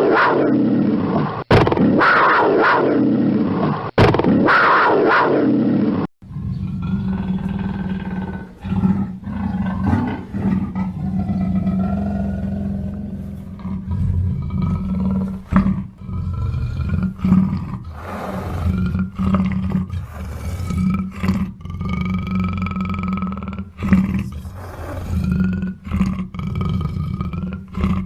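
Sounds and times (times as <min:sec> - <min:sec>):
panther growling and roaring: 0:00.0 - 0:28.0.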